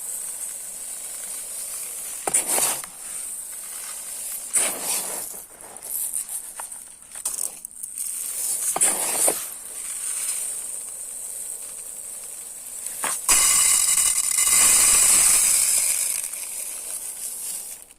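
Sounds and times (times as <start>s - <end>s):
rice pouring: 0.0s - 17.9s.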